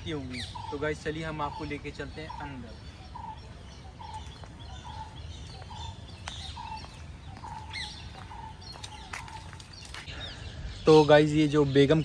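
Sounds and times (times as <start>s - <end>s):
high bird chirps: 0.0s - 12.0s.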